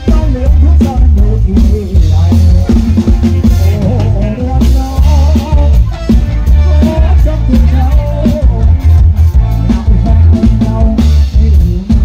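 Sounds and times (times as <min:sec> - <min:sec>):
drum kit beat: 0:00.0 - 0:12.0
electric bass: 0:00.0 - 0:12.0.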